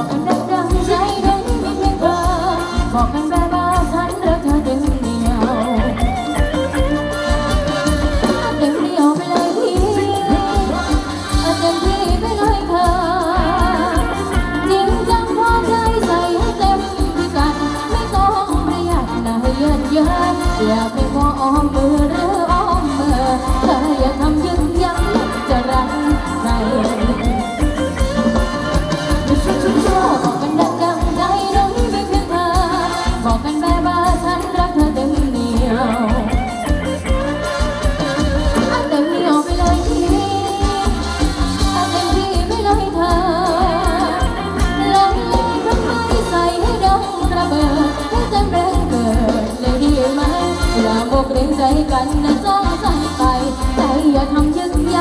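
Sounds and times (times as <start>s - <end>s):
wavering melodic lead line: 0.0s - 55.0s.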